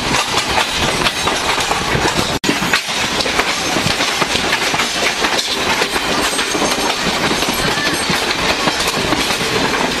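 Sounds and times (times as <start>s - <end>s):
rush of train wheels and air: 0.0s - 10.0s
wheels clattering on rails: 0.0s - 10.0s.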